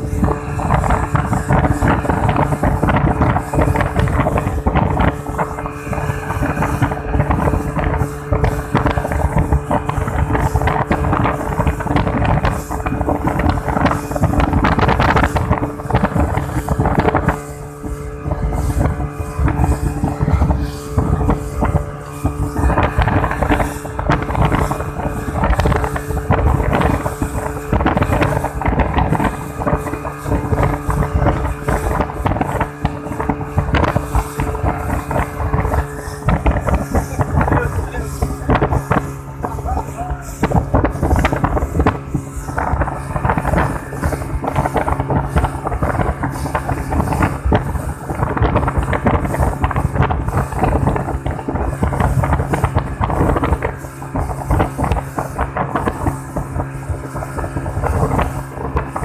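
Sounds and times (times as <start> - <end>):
outboard motor running at speed: 0.0 - 59.0
water rushing from wake: 0.0 - 59.0
wind buffeting microphone: 0.0 - 59.0.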